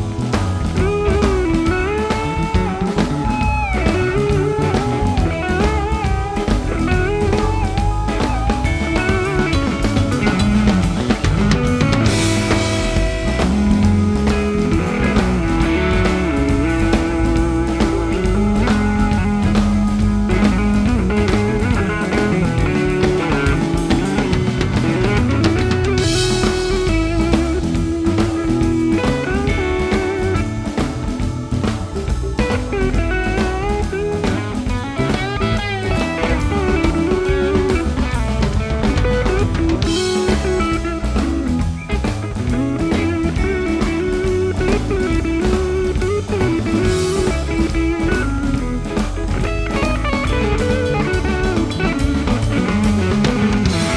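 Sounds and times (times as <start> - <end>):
blues-rock music: 0.0 - 53.9.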